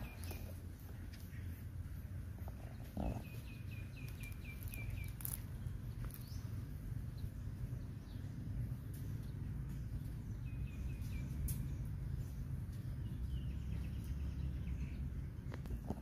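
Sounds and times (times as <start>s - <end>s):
bird chirping: 0.0s - 16.0s
low outdoor rumble: 0.0s - 16.0s.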